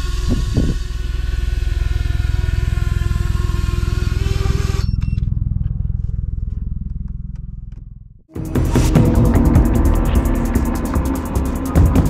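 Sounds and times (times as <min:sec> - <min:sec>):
drone motors whining: 0:00.0 - 0:12.0
low pulsing rumble: 0:00.0 - 0:12.0.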